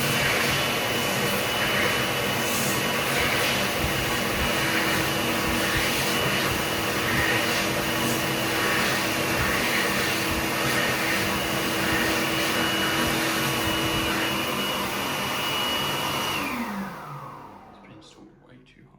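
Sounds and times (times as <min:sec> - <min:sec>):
hand dryer running: 0:00.0 - 0:18.1.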